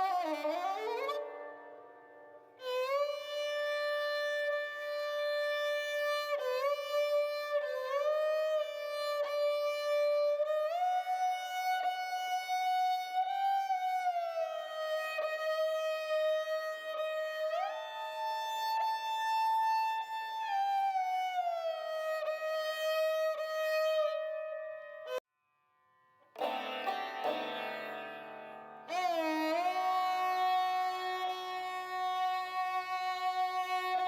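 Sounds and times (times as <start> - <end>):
slow bowed string melody: 0.0 - 25.2, 26.4 - 34.0.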